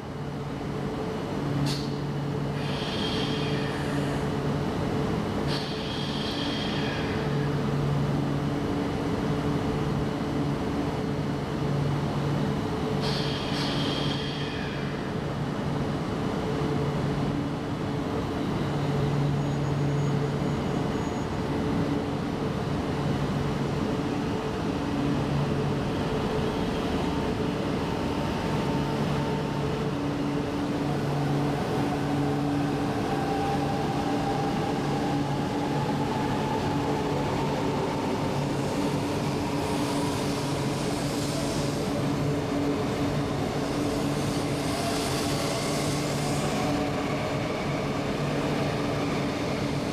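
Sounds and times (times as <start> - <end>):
electric train rumble and hum: 0.0 - 49.9
rising train whine: 0.0 - 49.9.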